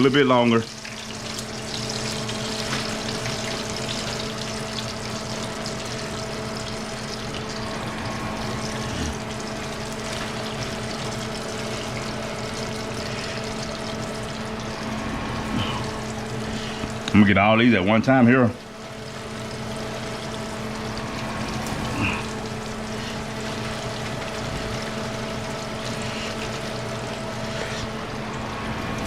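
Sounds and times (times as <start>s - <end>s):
fish sizzling in hot oil: 0.0s - 17.1s, 18.6s - 29.0s.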